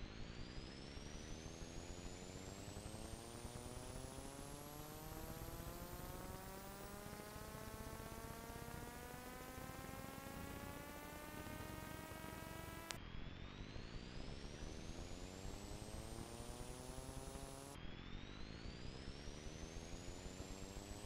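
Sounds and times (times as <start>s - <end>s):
rising buzzing hum: 0.0s - 21.0s.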